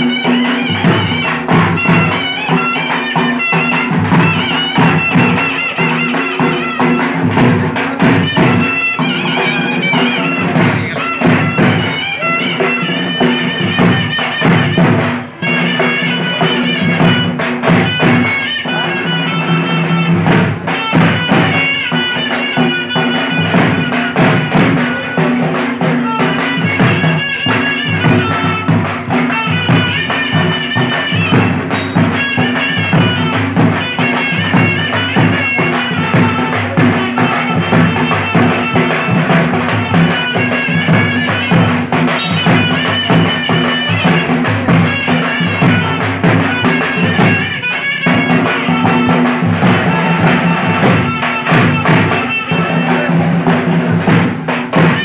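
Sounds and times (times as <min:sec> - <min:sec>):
barrel drums beaten fast: 0:00.0 - 0:55.0
wind instrument playing held notes: 0:00.0 - 0:55.0.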